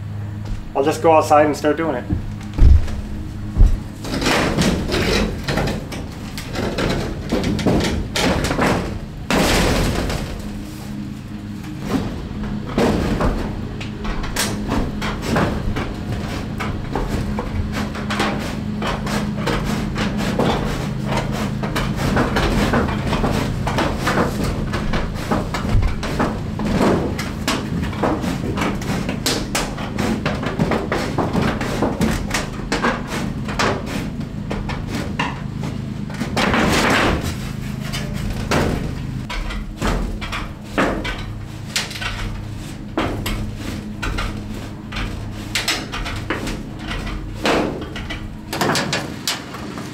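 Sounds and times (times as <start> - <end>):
low hum: 0.0 - 48.6.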